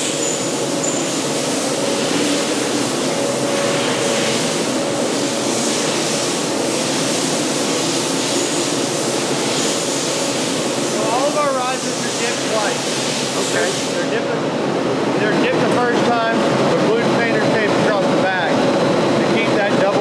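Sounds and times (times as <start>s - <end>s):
factory machinery roar: 0.0s - 20.0s.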